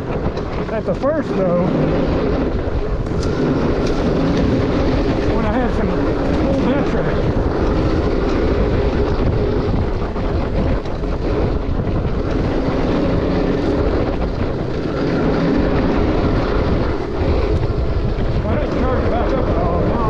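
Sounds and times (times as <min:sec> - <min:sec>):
dirt bike engine: 0:00.0 - 0:20.0.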